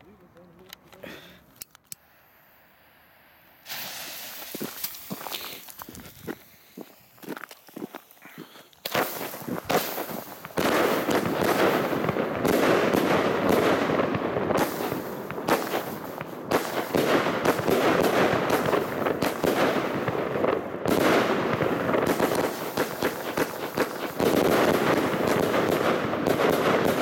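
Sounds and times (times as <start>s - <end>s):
crackling firework stars: 0.6s - 27.0s
firework launches and bursts: 2.0s - 27.0s.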